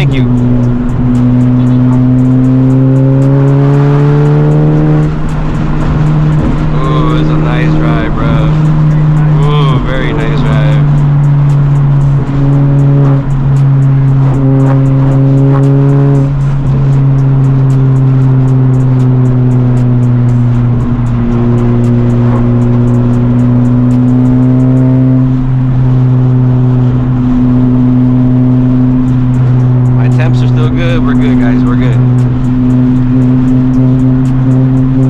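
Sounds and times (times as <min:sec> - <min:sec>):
background music with beat: 0:00.0 - 0:35.0
car engine droning: 0:00.0 - 0:35.0.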